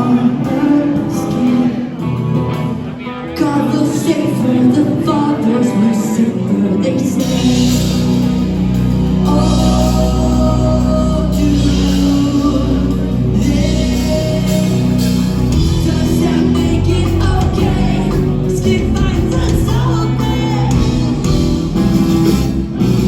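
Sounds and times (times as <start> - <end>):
person singing: 0.0 - 2.3, 3.0 - 8.4, 9.1 - 21.8
rock band playing: 0.0 - 23.0.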